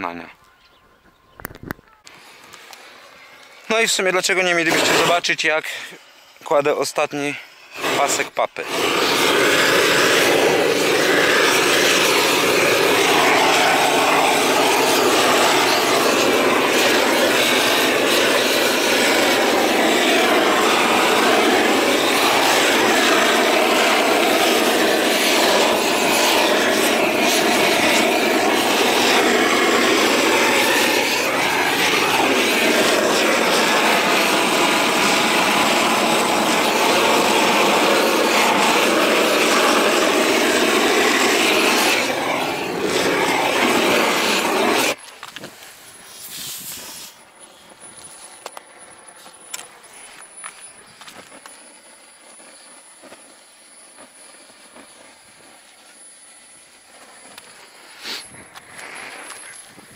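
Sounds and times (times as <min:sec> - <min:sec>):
roofing torch flame rushing: 0:02.2 - 0:59.9.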